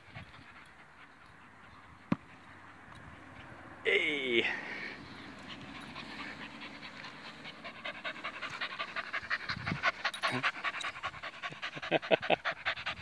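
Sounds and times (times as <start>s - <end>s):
dog panting: 0.0s - 3.6s, 5.0s - 13.0s.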